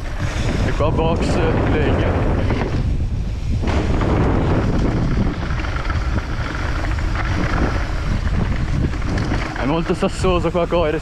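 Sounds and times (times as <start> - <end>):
tyres rumbling on loose gravel: 0.0 - 11.0
wind rushing over microphone: 0.0 - 11.0.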